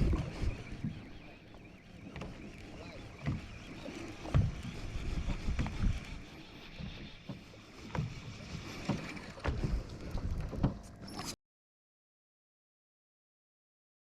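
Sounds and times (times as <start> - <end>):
wind and water wash: 0.0 - 11.4.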